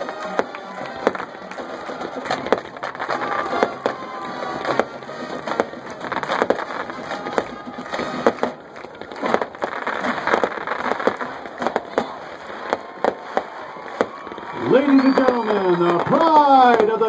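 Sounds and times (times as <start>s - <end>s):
fireworks bangs and pops: 0.0s - 17.0s
fireworks crackling: 0.0s - 17.0s.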